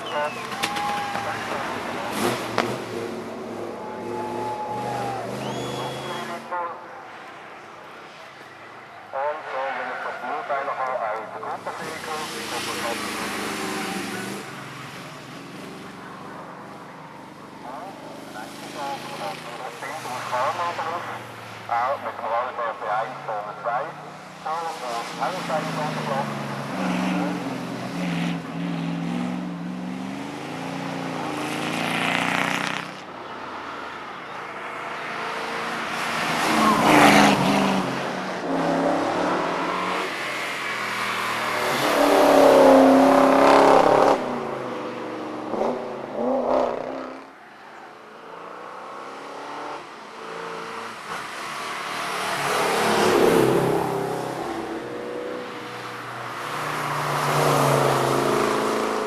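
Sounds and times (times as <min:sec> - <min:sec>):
racing car engine at full throttle: 0:00.0 - 0:59.0.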